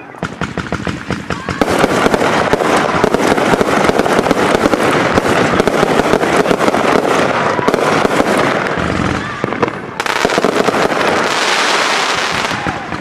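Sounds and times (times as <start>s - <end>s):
firework pops and bursts: 0.2s - 13.0s.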